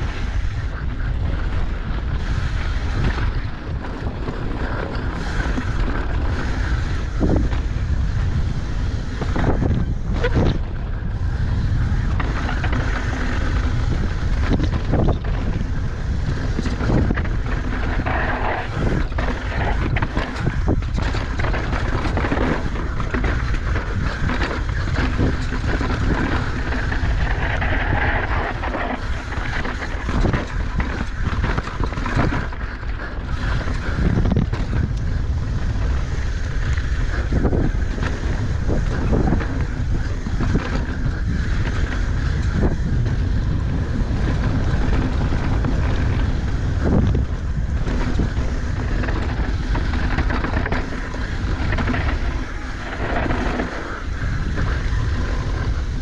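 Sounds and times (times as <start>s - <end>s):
bike knocks and rattles: 0.0s - 56.0s
wind buffeting microphone: 0.0s - 56.0s.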